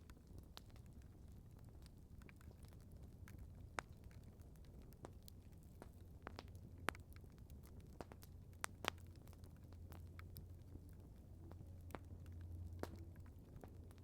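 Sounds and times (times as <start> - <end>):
campfire crackling: 0.0 - 14.0
faint low hum: 0.3 - 14.0.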